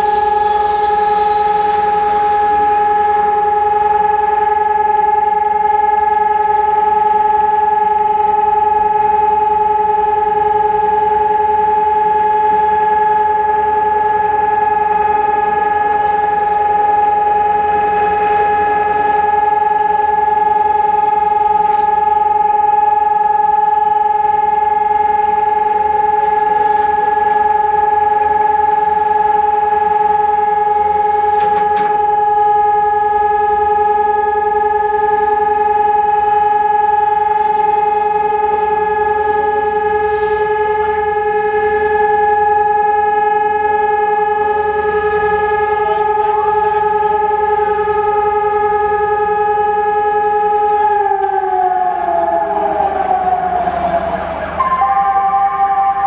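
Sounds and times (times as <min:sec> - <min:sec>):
siren steady tone: 0:00.0 - 0:56.0.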